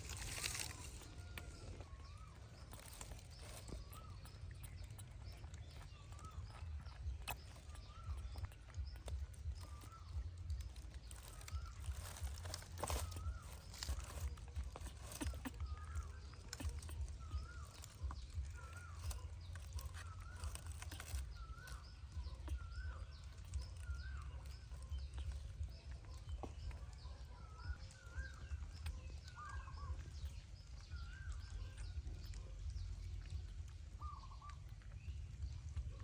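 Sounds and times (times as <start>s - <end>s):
baby monkey squeaky calls: 0.0s - 32.4s
low steady rumble: 0.0s - 36.0s.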